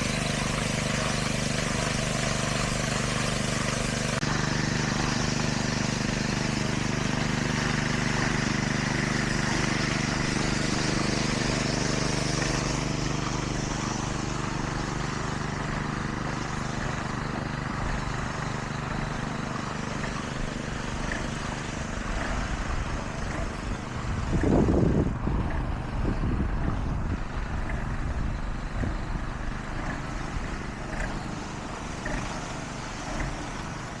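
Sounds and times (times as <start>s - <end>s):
heavy machinery engine droning: 0.0s - 34.0s
loud rumble: 0.0s - 34.0s.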